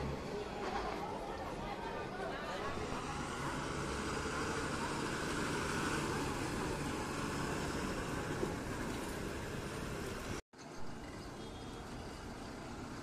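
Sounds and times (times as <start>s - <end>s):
bus diesel engine droning: 0.0s - 10.4s
road noise: 0.0s - 13.0s.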